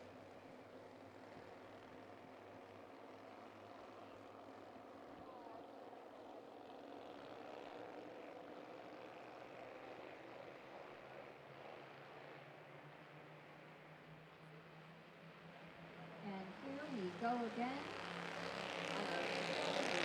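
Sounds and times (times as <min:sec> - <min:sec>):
distant race car engines droning: 0:00.0 - 0:20.0.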